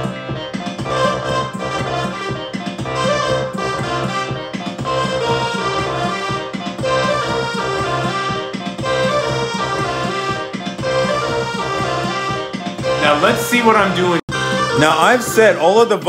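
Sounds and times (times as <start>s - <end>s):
layered synthesizer music: 0.0s - 16.0s.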